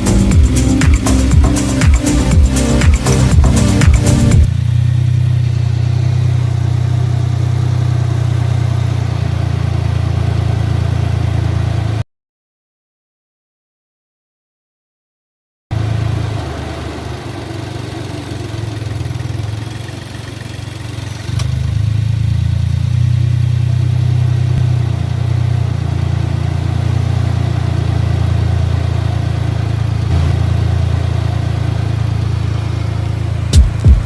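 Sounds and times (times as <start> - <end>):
vehicle engine idling: 0.0 - 12.0, 15.7 - 34.0.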